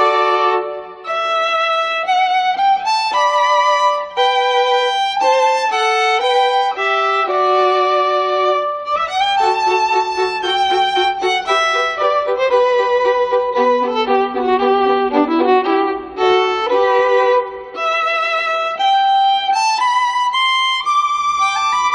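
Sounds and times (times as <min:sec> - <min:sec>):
violin-like melody: 0:00.0 - 0:21.9.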